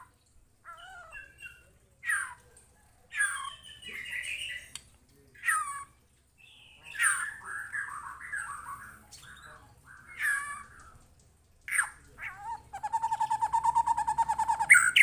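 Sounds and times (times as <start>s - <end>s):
bird singing warbling phrases: 0.0s - 15.0s.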